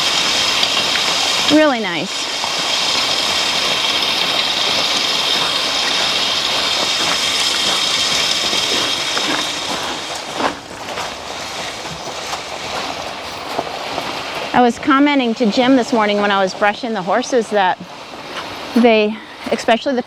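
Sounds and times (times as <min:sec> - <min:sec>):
harrow tines scraping gravel: 0:01.2 - 0:19.0.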